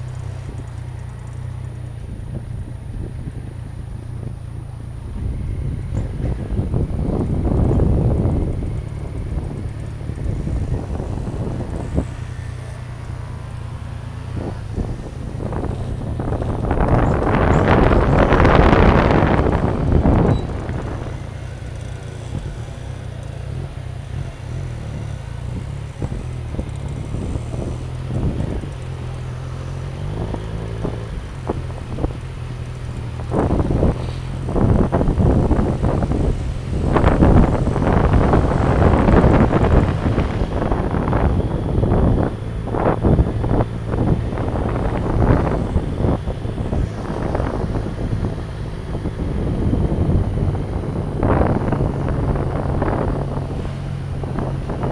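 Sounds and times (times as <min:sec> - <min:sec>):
motorcycle engine running: 0:00.0 - 0:54.9
wind buffeting microphone: 0:00.0 - 0:54.9.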